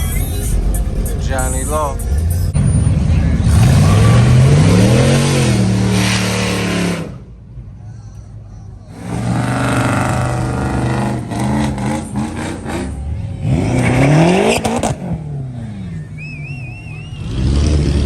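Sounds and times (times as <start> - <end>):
car engine revving: 0.0 - 7.5, 8.9 - 18.0
car accelerating past: 1.2 - 7.3, 9.0 - 18.0.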